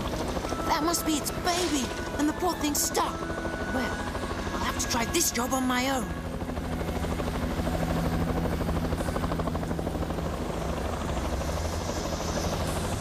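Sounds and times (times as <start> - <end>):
helicopter rotor chop: 0.0 - 13.0.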